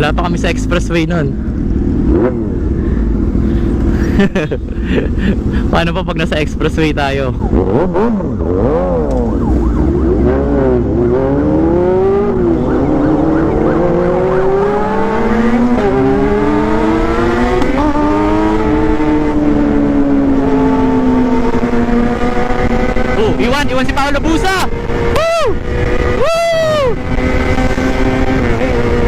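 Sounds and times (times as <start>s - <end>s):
motorcycle engine revving: 1.4s - 4.2s, 7.2s - 29.0s.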